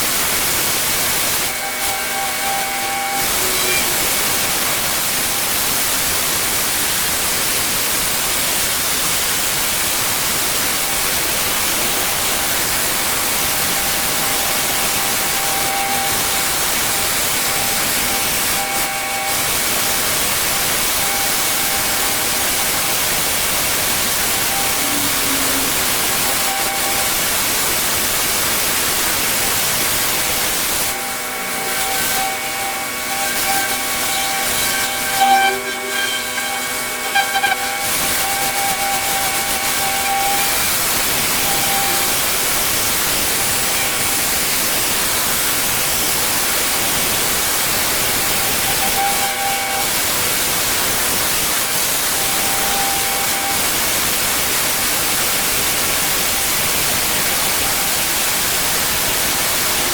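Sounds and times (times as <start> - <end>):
pressure washer machine running: 0.0 - 59.9
pressure washer water jet hiss: 0.0 - 59.9.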